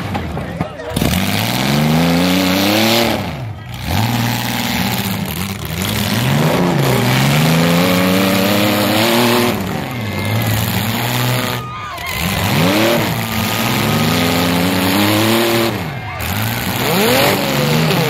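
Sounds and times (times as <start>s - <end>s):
car engine revving hard: 0.9s - 18.0s.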